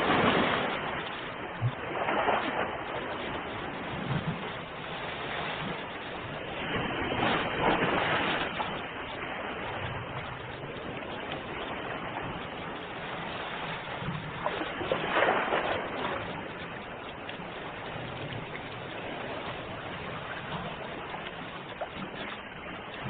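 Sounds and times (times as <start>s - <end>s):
ocean waves washing ashore: 0.0s - 23.0s.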